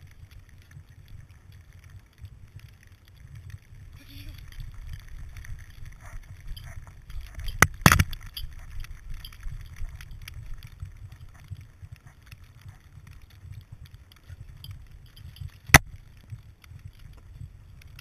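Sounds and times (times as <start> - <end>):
muffled low rumble: 0.0 - 18.0.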